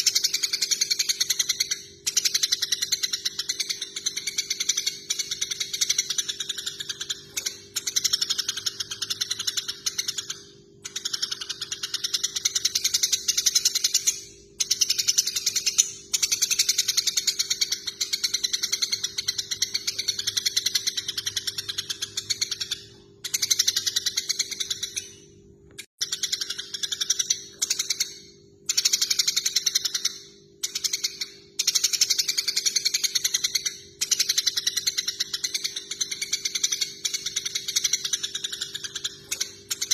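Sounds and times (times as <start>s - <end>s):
sparrows chattering: 0.0s - 25.3s, 26.0s - 39.9s.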